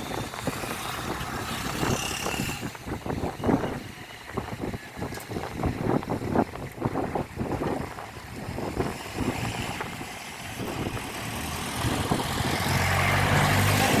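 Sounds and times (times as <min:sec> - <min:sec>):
engine rumbling: 0:00.0 - 0:14.0
wind buffeting microphone: 0:00.0 - 0:14.0.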